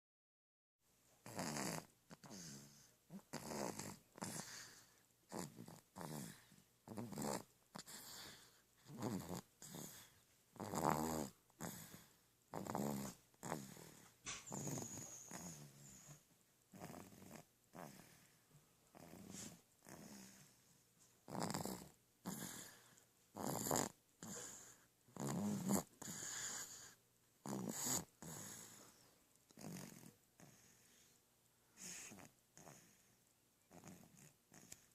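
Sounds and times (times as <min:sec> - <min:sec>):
baby snoring: 0:01.2 - 0:20.6, 0:21.2 - 0:31.2, 0:31.8 - 0:34.9.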